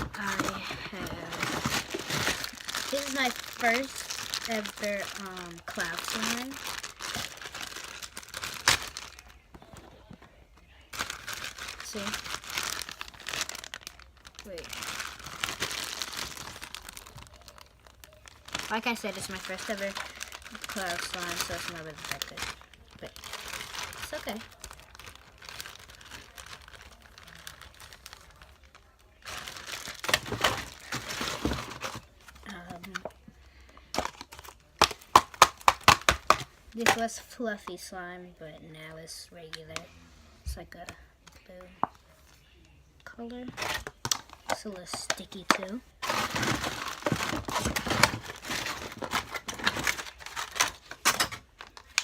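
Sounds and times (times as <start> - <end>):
plastic containers crinkling and clicking: 0.0 - 37.2, 43.0 - 52.0.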